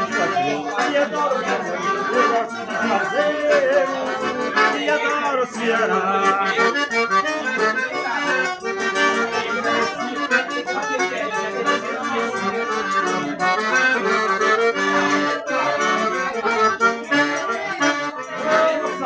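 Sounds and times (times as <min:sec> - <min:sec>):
accordion playing: 0:00.0 - 0:19.0.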